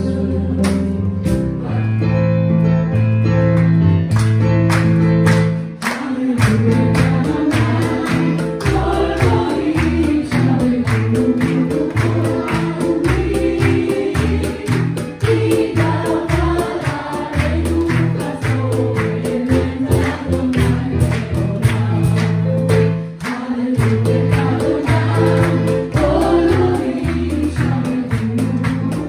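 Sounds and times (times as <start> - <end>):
band instrumental backing: 0.0 - 29.0
crowd clapping on the beat: 0.6 - 1.1, 3.5 - 29.0
congregation singing: 5.6 - 29.0.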